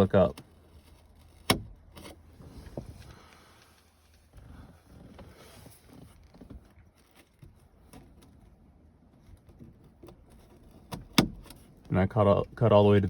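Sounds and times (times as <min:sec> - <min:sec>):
handling clicks and rustles: 0:00.0 - 0:13.0.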